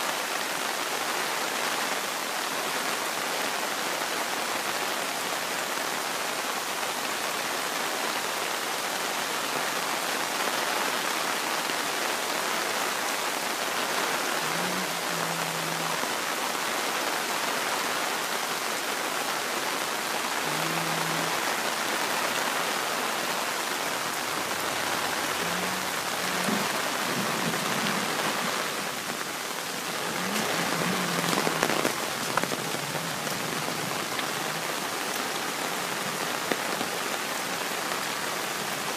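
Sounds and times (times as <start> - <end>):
hiss of rain and running water: 0.0 - 38.9.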